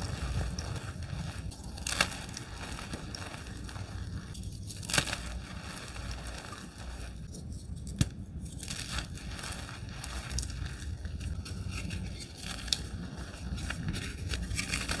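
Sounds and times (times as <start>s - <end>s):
chalk crunching by hand: 0.0s - 15.0s
chalk snapping: 0.0s - 15.0s.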